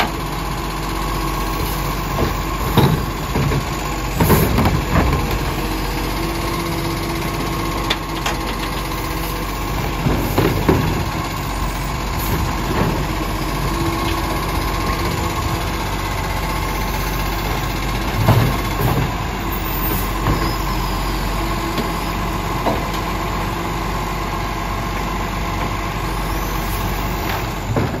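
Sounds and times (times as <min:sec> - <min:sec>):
garbage truck idling: 0:00.0 - 0:28.0.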